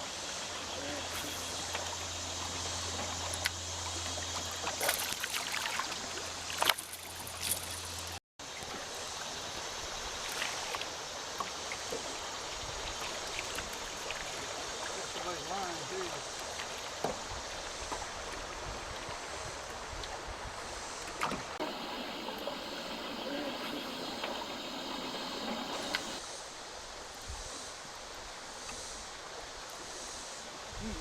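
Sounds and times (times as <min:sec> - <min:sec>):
river water rippling around a boat: 0:00.0 - 0:31.0.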